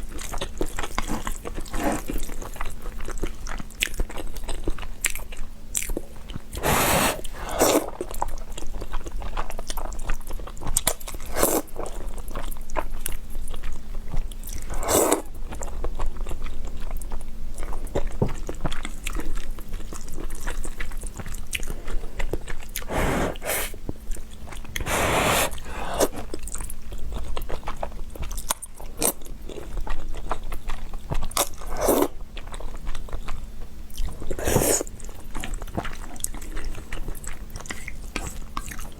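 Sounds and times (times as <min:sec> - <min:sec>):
chewing noodles close up: 0:00.1 - 0:38.9.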